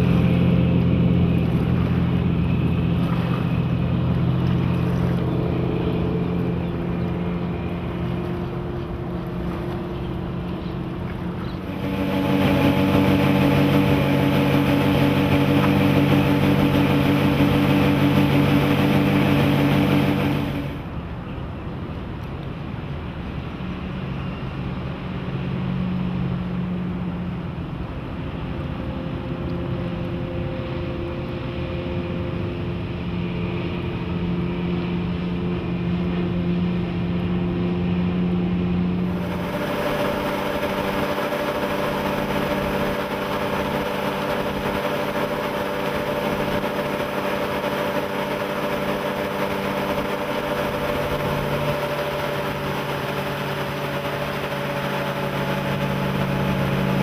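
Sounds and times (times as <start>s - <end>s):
boat engine drone: 0.0s - 57.0s
rush of wind and water: 0.0s - 57.0s.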